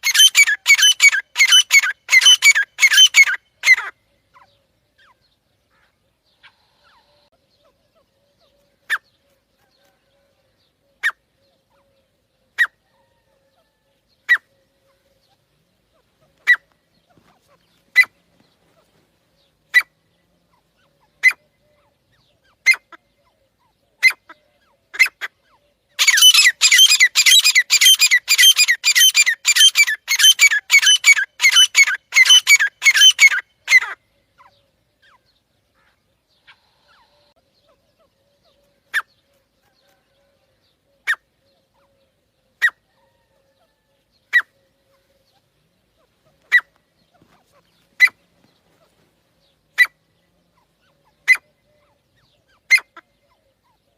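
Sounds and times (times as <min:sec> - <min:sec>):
francolin calls: 0:00.0 - 0:53.9.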